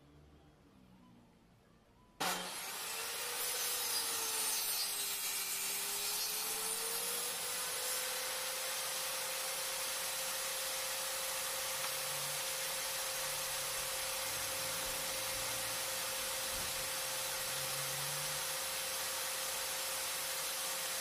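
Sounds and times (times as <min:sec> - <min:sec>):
power tool cutting wood: 0:02.2 - 0:21.0.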